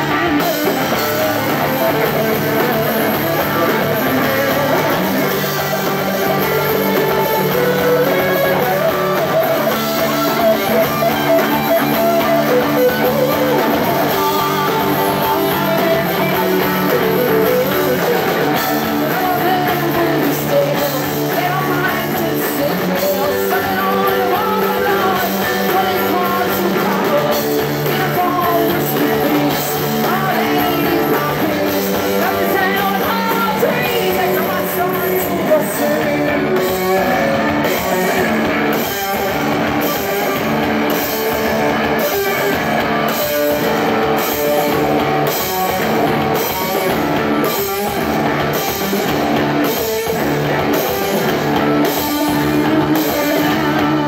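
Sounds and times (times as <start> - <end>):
drums beating: 0.0 - 54.0
live punk rock band: 0.0 - 54.0.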